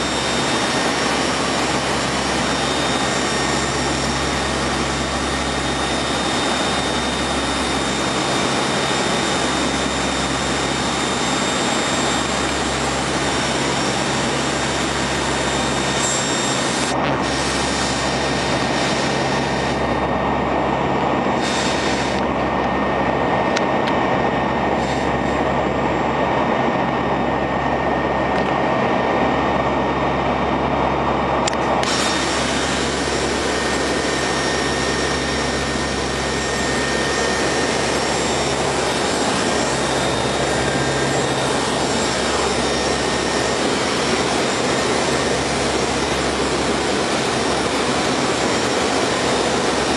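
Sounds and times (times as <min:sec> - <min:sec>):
turboprop engines droning in flight: 0:00.0 - 0:49.9.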